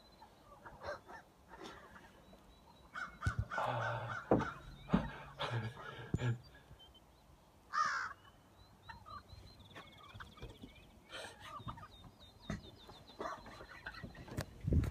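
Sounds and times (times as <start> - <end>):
turkeys calling and clucking: 0.0 - 14.7.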